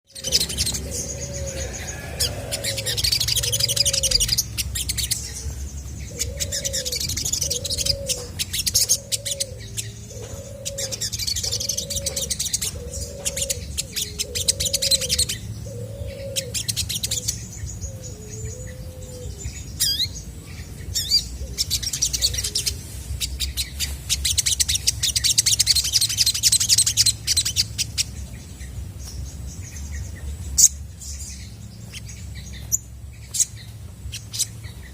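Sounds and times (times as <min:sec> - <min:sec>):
bird twittering song: 0:00.0 - 0:34.9
steady low hum: 0:00.1 - 0:34.9.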